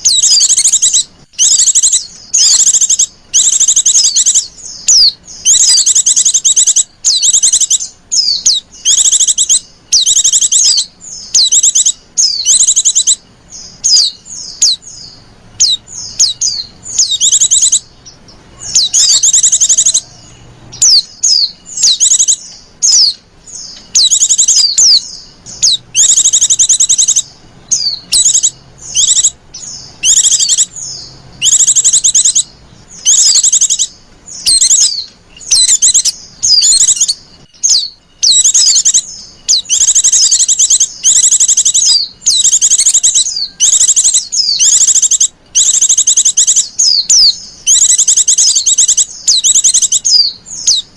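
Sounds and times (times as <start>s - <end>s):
bird high trilled calls: 0.0s - 50.9s.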